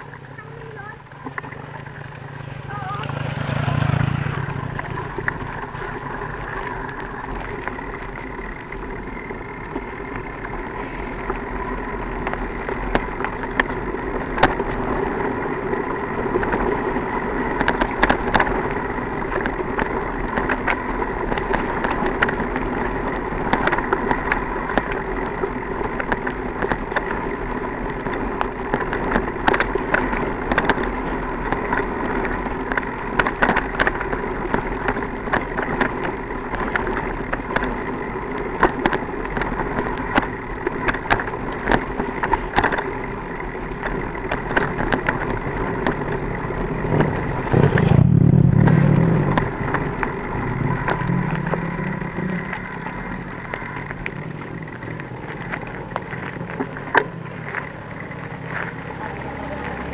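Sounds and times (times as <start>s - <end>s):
bicycle rattling clicks: 0.0s - 59.9s
bicycle rolling on rough trail: 0.0s - 59.9s.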